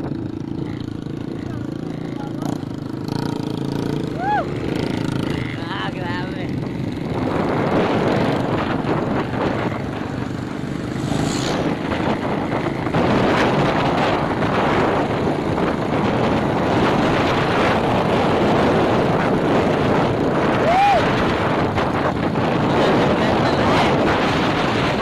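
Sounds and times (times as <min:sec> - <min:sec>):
small motorcycle engine running: 0:00.0 - 0:25.0
wind on microphone: 0:00.0 - 0:25.0.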